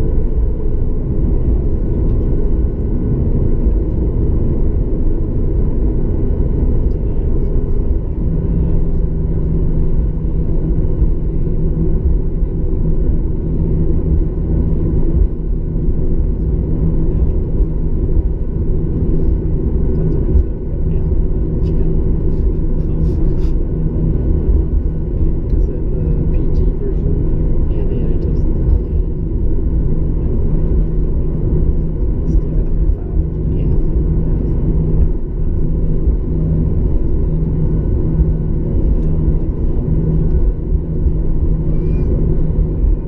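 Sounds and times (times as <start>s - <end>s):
faint hum: 0.0s - 43.0s
jet engines idling rumble: 0.0s - 43.0s
steady low tone: 0.0s - 43.0s.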